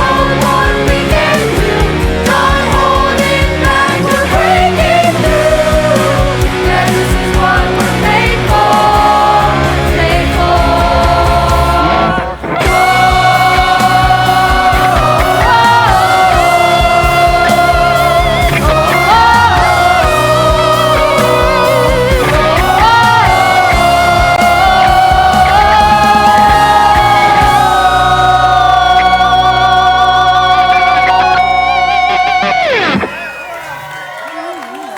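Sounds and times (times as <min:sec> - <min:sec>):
gliding melodic lead line: 0:00.0 - 0:33.6
rock band playing: 0:00.0 - 0:34.0
drums: 0:00.0 - 0:34.2.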